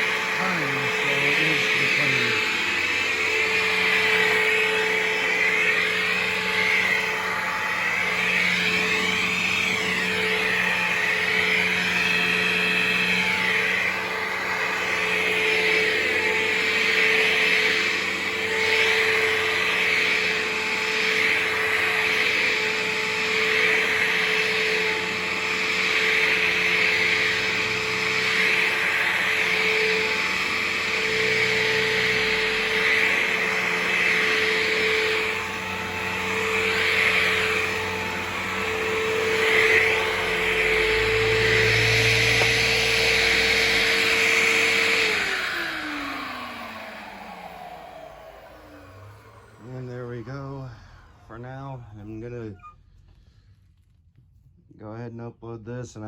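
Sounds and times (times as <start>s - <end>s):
vacuum cleaner running on rug: 0.0s - 52.7s.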